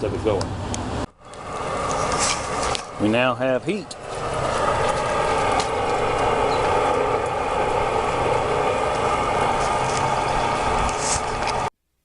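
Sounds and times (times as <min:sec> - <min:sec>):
faint hum: 0:00.0 - 0:11.7
furnace blower rushing: 0:00.0 - 0:11.7.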